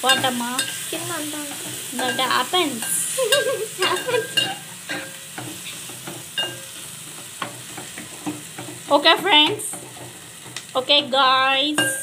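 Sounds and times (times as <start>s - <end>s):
frying sizzle: 0.0s - 12.0s.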